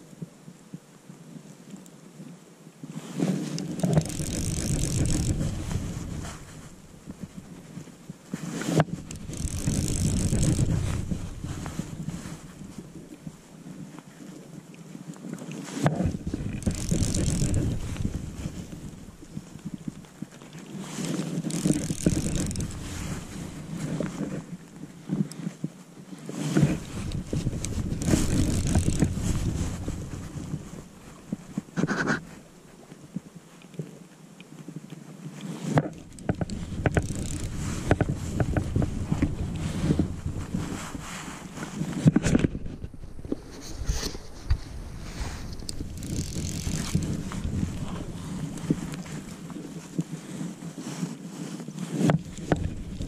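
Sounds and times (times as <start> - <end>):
hands rustling fly rod and reel: 1.4 - 53.0
fishing line pulled through fingers: 3.0 - 14.4, 15.3 - 33.0, 35.4 - 53.0
wind buffeting microphone: 3.5 - 14.0, 15.8 - 25.8, 26.5 - 33.2, 35.8 - 51.0, 52.0 - 53.0.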